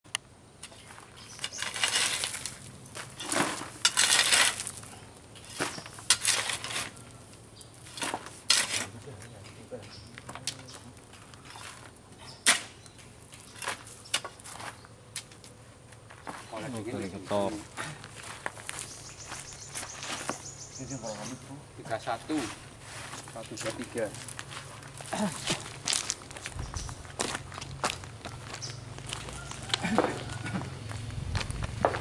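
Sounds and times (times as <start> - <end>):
hoe scraping sand and gravel: 0.6 - 32.0.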